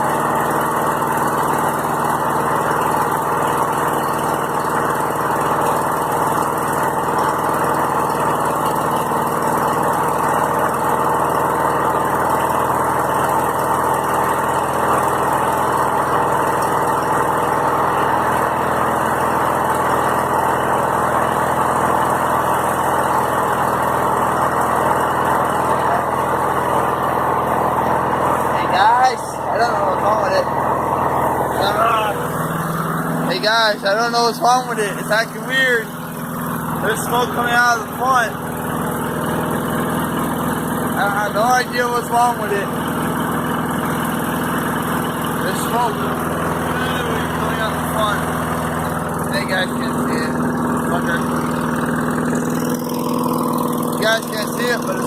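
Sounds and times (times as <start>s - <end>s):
petrol engine idling: 0.0s - 55.0s.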